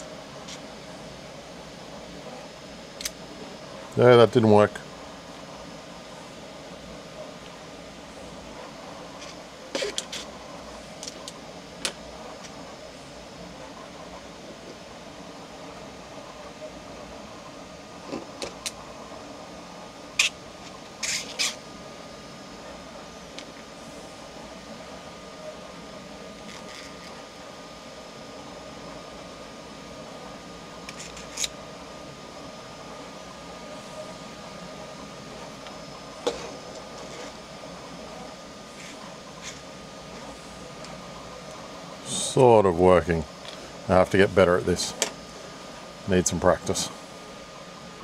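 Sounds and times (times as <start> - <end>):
faint high whining tones: 0.0 - 48.0
fan-like hum: 0.0 - 48.0.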